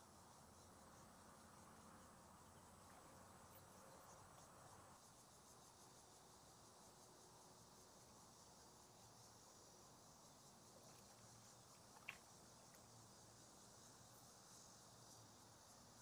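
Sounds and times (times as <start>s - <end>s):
high-pitched insect hum: 0.0s - 16.0s.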